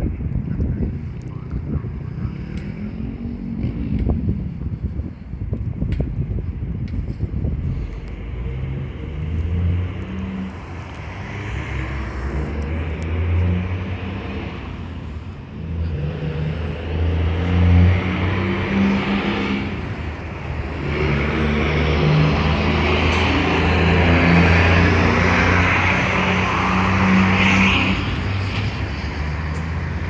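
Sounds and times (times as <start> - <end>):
diesel engine running under load: 0.6 - 30.0.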